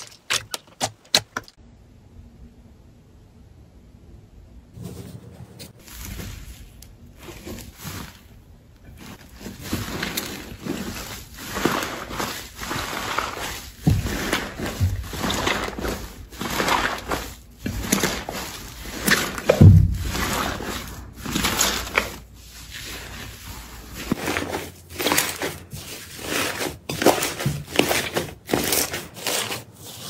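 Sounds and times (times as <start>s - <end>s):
slime squishing: 5.8s - 30.0s.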